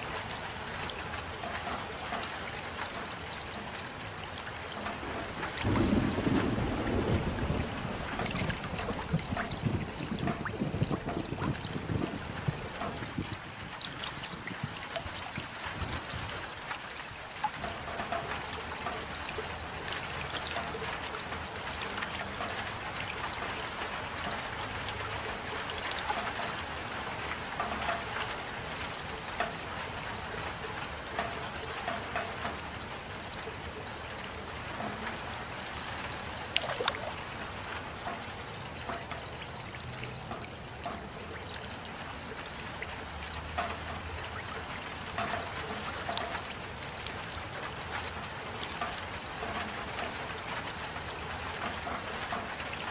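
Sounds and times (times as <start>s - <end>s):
steady rain falling: 0.0s - 52.9s
water trickling: 0.0s - 52.9s.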